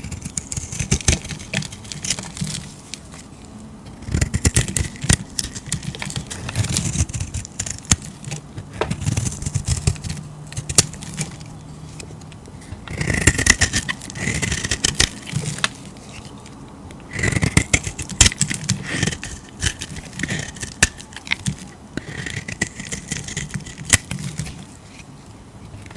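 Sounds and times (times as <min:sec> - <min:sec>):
knife cutting through soap: 0:00.0 - 0:03.3, 0:04.0 - 0:16.4, 0:17.1 - 0:25.1.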